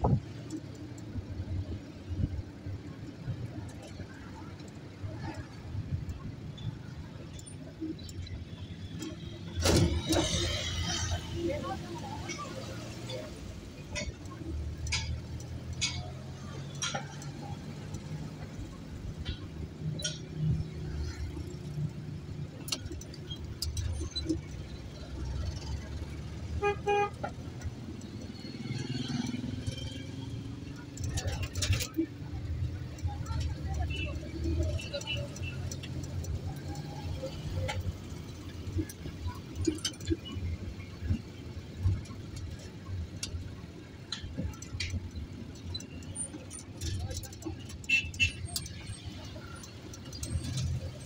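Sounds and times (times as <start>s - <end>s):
vehicle engines rumbling: 0.0s - 51.0s.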